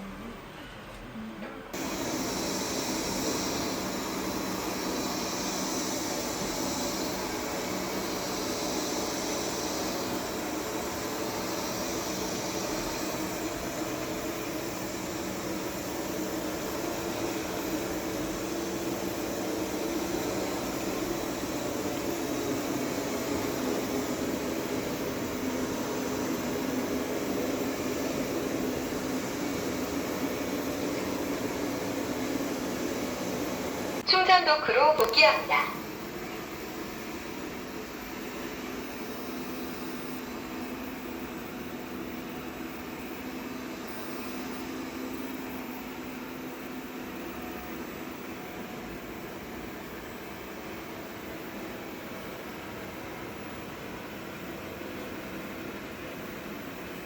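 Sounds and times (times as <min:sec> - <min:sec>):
robot vacuum cleaner whirring: 0:01.7 - 0:57.0.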